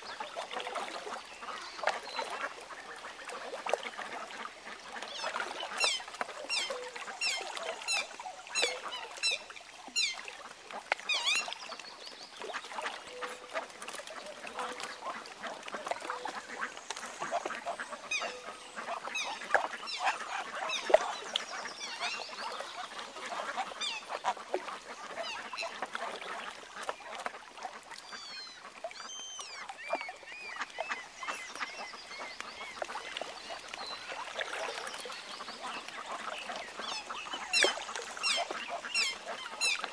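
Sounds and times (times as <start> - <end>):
waterfowl calling: 0.0 - 11.8, 12.4 - 39.9.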